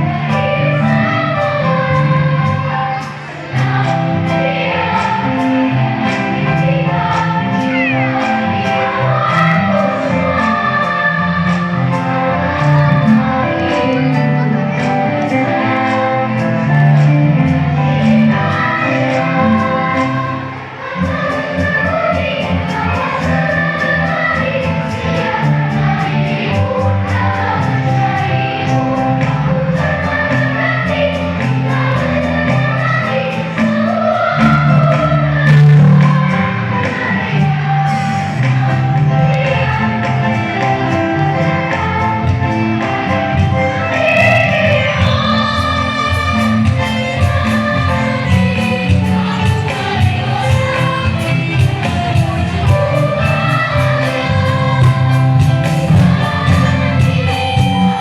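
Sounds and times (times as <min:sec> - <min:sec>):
choir singing: 0:00.0 - 0:58.0
low musical accompaniment: 0:00.0 - 0:58.0.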